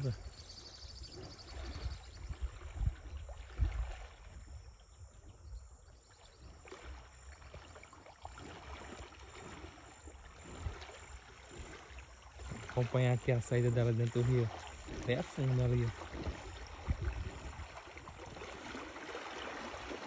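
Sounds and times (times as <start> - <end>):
water sloshing and splashing: 0.0 - 4.9, 6.0 - 20.0.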